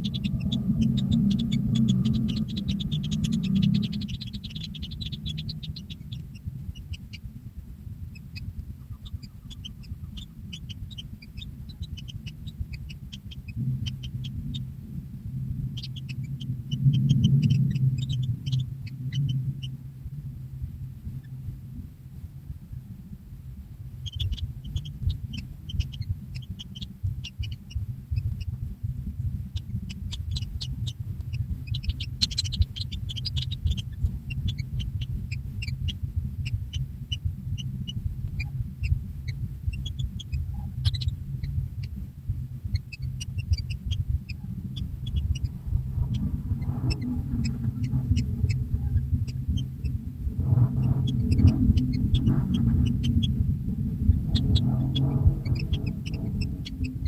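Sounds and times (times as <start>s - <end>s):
nestlings chirping: 0.0s - 19.8s, 23.8s - 57.0s
steady low rumble: 0.0s - 57.0s.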